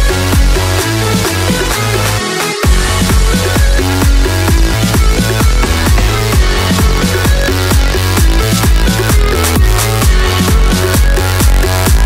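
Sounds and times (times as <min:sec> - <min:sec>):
electro-trance music: 0:00.0 - 0:12.0
kick drum beat: 0:00.0 - 0:12.0.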